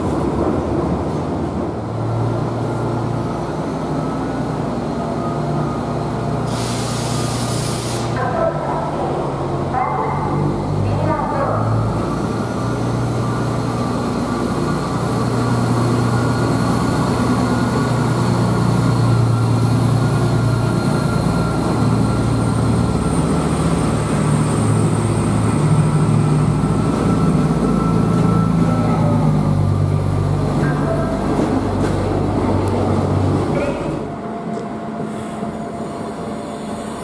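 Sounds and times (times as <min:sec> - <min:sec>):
diesel train engines droning: 0:00.0 - 0:37.0.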